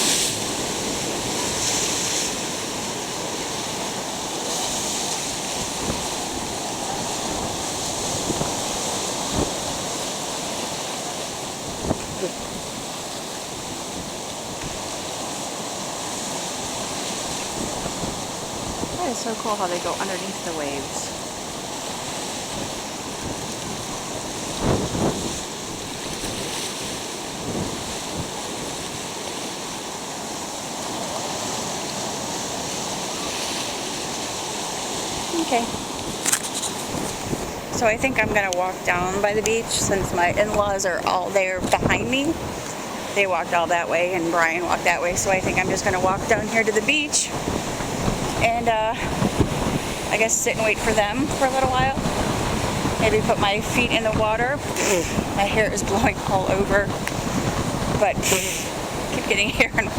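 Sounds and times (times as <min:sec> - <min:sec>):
surf breaking: 0:00.0 - 0:59.9
wind buffeting microphone: 0:00.0 - 0:59.9.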